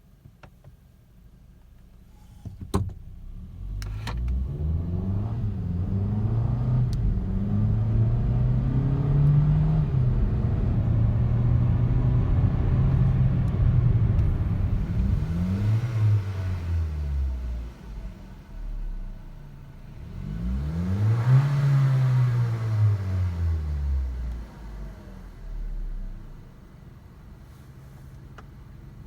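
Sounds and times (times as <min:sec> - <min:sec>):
car engine accelerating: 0:03.2 - 0:26.6.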